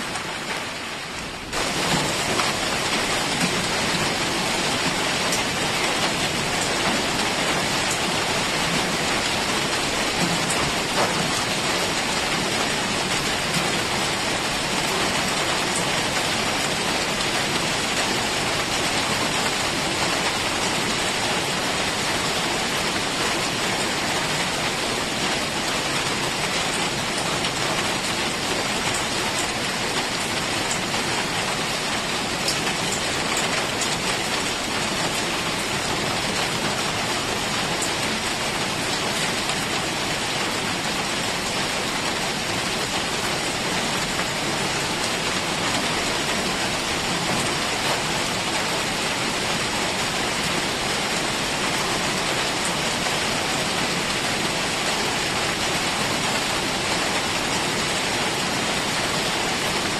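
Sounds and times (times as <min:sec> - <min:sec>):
heavy rain in a forest: 0:00.0 - 0:59.9.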